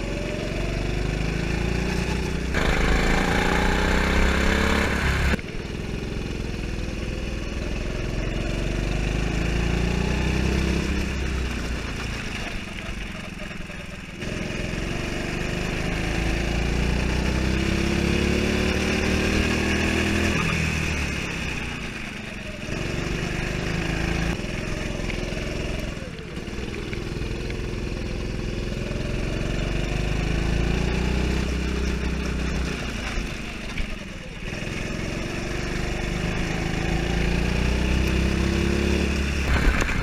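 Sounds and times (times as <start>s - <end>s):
go-kart engine revving: 0.0s - 40.0s.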